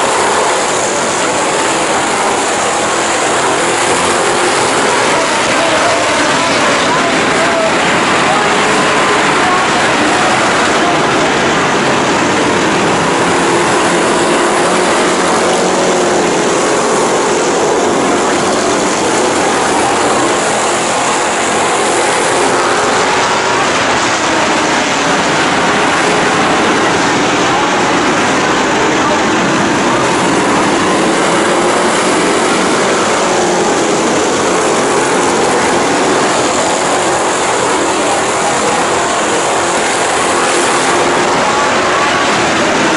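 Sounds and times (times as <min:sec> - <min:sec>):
race car engines roaring: 0:00.0 - 0:42.9.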